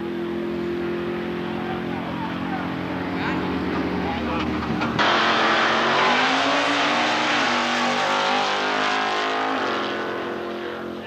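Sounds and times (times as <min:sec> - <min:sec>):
drag racing cars accelerating: 0:00.0 - 0:11.0.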